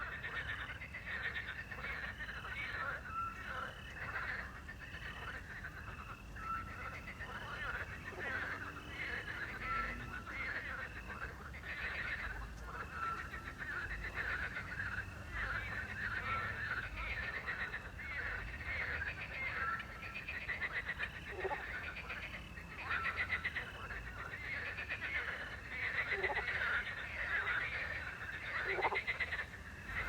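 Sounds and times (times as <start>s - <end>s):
frogs croaking: 0.0s - 30.0s.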